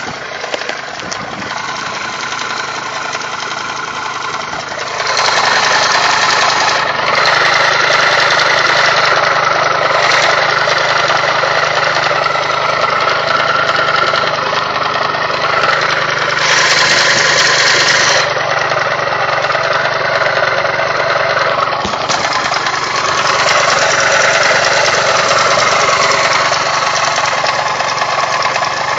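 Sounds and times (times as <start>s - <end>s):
motorcycle engine knocking: 0.0s - 28.9s.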